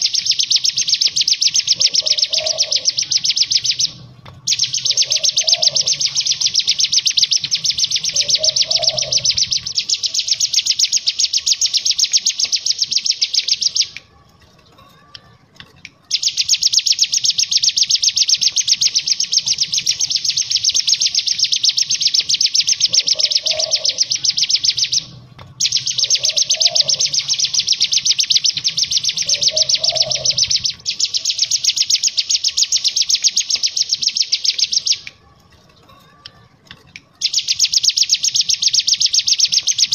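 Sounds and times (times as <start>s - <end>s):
bird rattling song: 0.0s - 39.9s.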